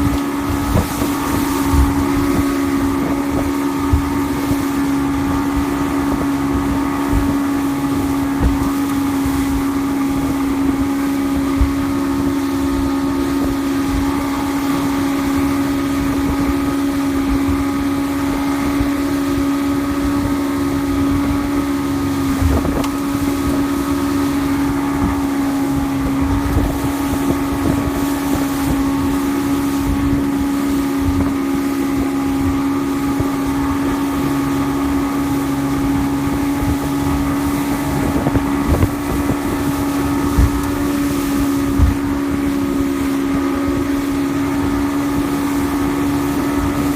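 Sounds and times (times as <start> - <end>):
outboard motor running: 0.0 - 46.9
wind buffeting microphone: 0.0 - 46.9.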